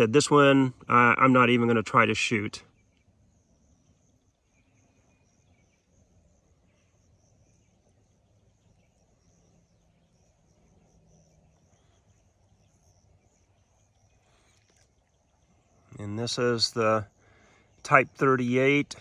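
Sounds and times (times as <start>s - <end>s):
faint high-pitched hiss: 0.0s - 19.0s.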